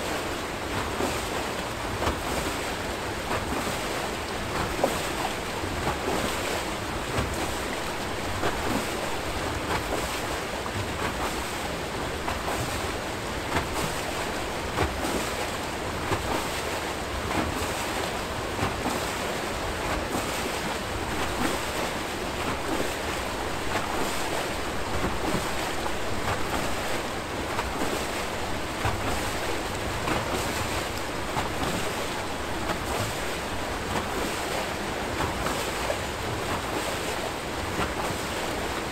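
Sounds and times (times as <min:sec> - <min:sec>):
water rushing and churning: 0:00.0 - 0:38.9.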